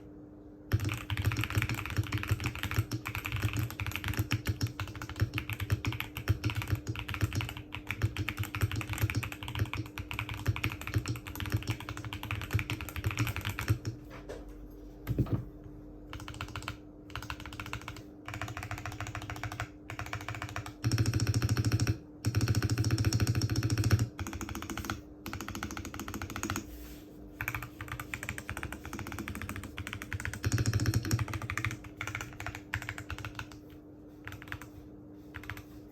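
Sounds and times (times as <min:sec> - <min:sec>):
mechanical keyboard typing: 0:00.7 - 0:14.0, 0:16.1 - 0:26.7, 0:27.4 - 0:35.8.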